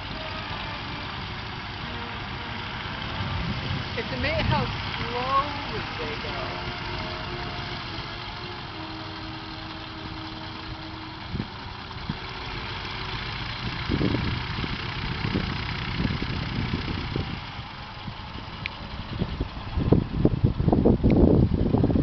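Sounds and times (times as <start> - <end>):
propeller aircraft engine droning: 0.0 - 22.0.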